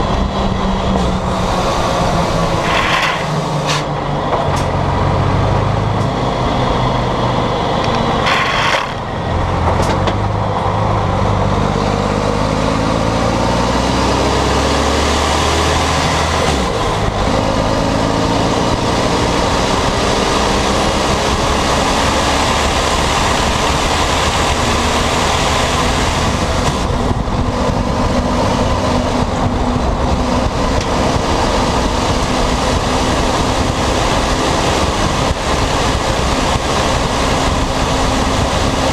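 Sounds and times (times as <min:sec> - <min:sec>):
diesel truck engine loud exhaust: 0:00.0 - 0:38.9.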